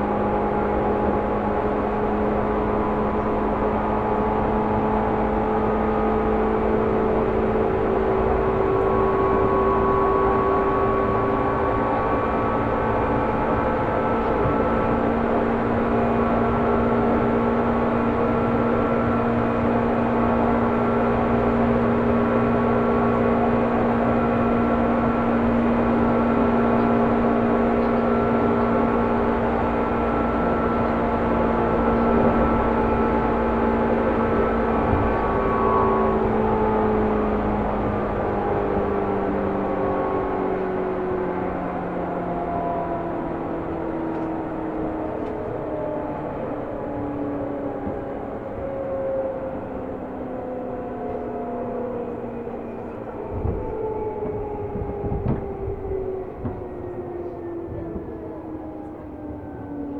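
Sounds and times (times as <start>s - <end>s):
rail and wheel noise: 0.0s - 59.9s
train motor and gear whine: 0.0s - 59.9s.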